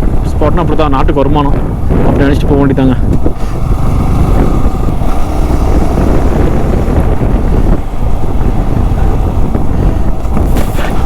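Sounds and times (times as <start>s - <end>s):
motorcycle running: 0.0s - 11.0s
wind rushing over microphone: 0.0s - 11.0s.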